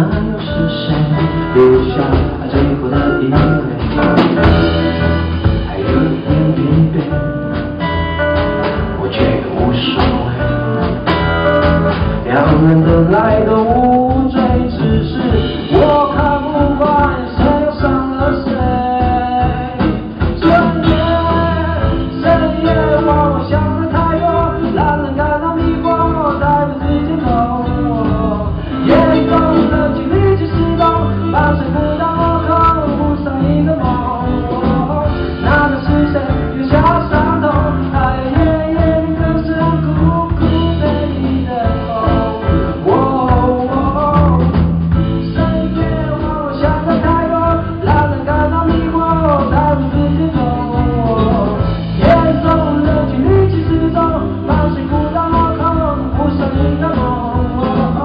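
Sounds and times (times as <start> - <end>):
man singing pop song: 0.0 - 7.7, 8.6 - 11.0, 11.9 - 58.0
bass: 0.0 - 58.0
guitar: 0.0 - 58.0.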